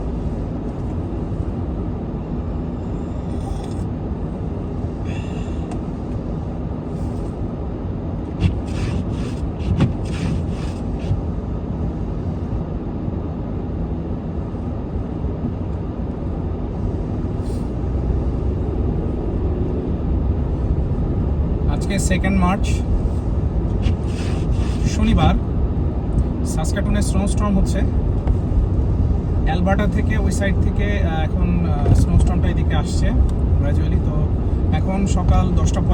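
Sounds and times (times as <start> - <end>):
car cabin rumble: 0.0 - 12.1, 15.2 - 35.9.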